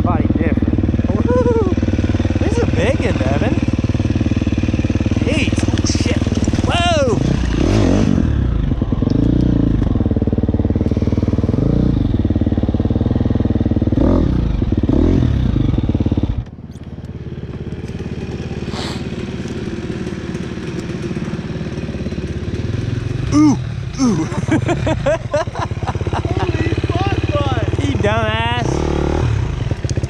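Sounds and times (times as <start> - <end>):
dirt bike engine idling: 0.0 - 30.0
quieter dirt bike engine: 0.0 - 30.0.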